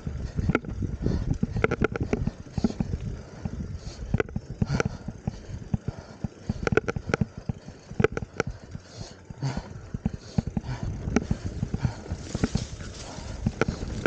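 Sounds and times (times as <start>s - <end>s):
bike chain and frame rattling: 0.0s - 14.0s
low rumble: 0.0s - 14.0s.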